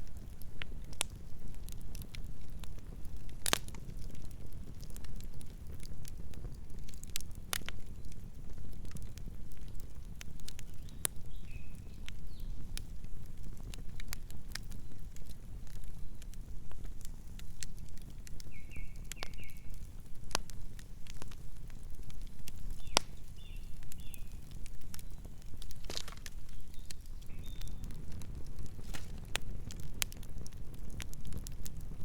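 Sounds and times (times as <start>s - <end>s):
campfire crackling and popping: 0.0s - 32.0s
low rumble of flames: 0.0s - 32.0s.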